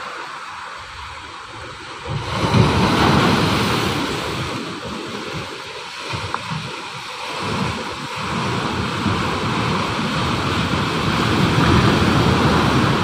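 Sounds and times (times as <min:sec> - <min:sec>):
ocean surf breaking on a beach: 0:00.0 - 0:13.0.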